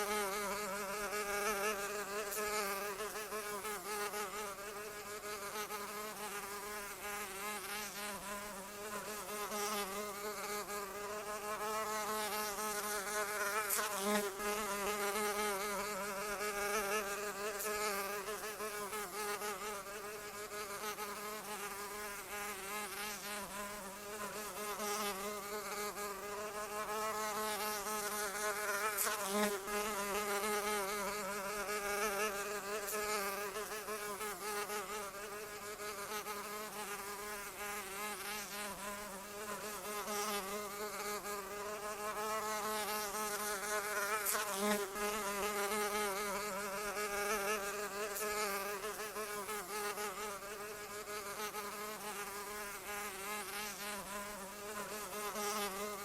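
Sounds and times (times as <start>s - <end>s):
insect wings buzzing: 0.0s - 56.0s.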